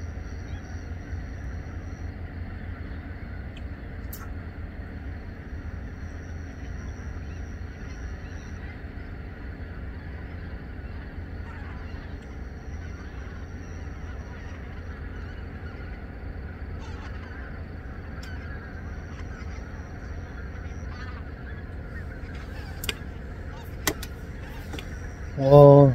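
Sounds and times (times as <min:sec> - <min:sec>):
geese honking: 0:00.0 - 0:25.9.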